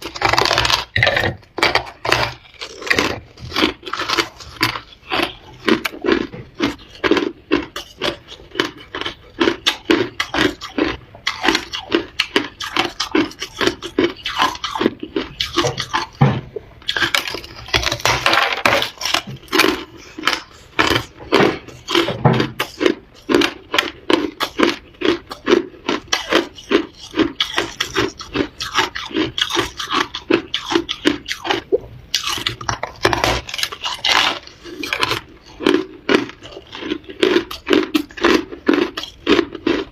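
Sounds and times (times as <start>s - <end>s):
ice crunching in mouth: 0.0s - 16.2s, 16.8s - 39.9s.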